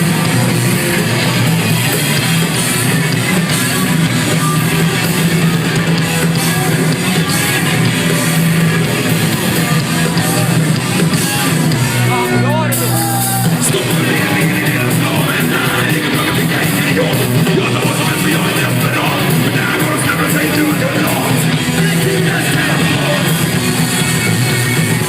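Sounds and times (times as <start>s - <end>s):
loud rock music with guitar: 0.0s - 25.0s.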